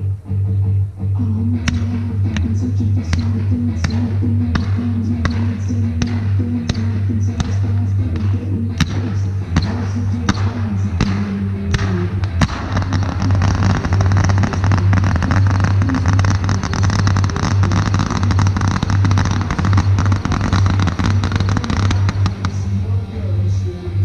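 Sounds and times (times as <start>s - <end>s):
pulsing bass music: 0.0s - 24.0s
fireworks bangs and crackling: 1.4s - 23.7s.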